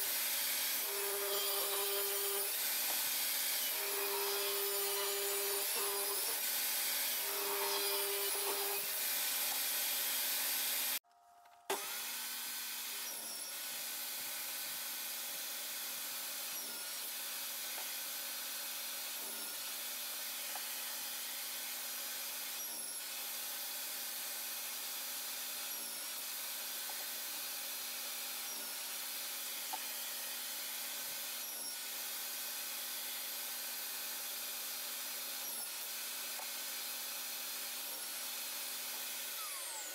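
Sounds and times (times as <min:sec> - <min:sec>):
table saw cutting wood: 0:00.0 - 0:11.0, 0:11.7 - 0:39.9.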